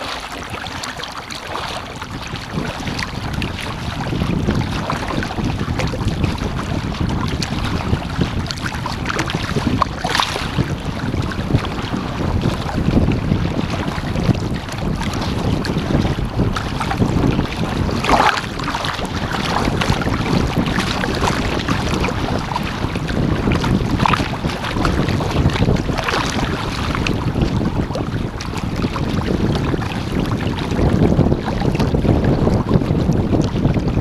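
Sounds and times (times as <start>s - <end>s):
water splashing against hull: 0.0s - 34.0s
wind buffeting microphone: 0.0s - 34.0s.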